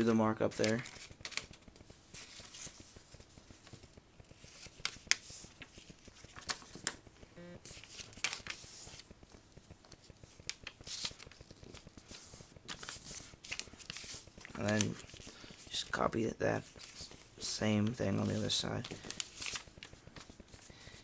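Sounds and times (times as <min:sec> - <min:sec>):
paper folding and rustling: 0:00.0 - 0:07.0, 0:07.6 - 0:21.0.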